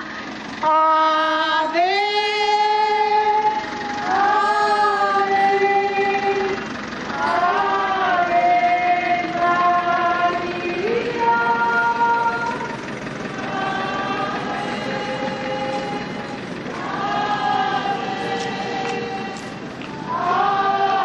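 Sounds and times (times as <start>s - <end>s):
voices singing a slow hymn: 0.0s - 21.0s.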